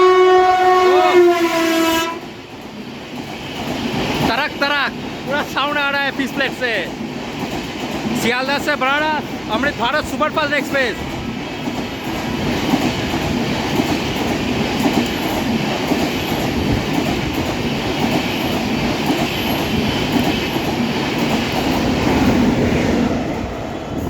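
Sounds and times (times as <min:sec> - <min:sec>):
train wheels clattering over rail joints: 0:02.3 - 0:22.6.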